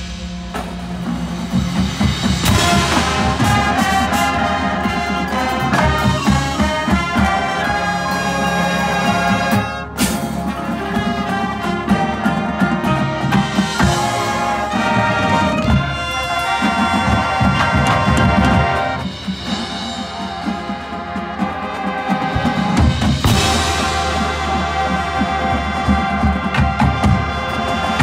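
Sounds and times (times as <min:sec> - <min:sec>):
brass chords: 0:00.0 - 0:28.0
marching drums and percussion: 0:00.0 - 0:28.0.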